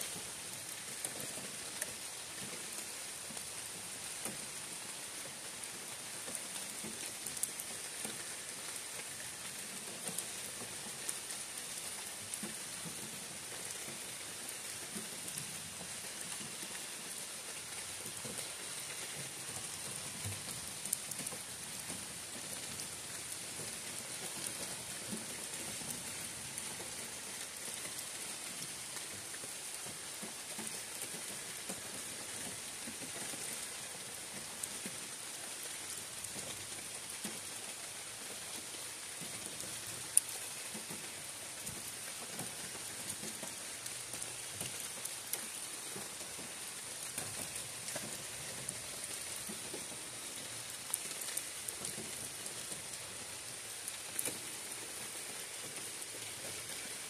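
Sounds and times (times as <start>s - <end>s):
rain on forest canopy: 0.0s - 57.0s.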